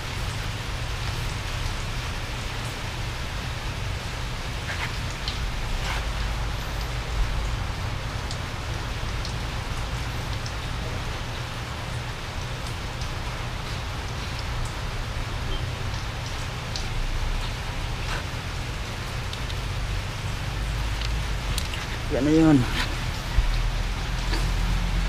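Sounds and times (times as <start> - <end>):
low steady rumble: 0.0 - 25.0
rain falling: 0.0 - 25.0.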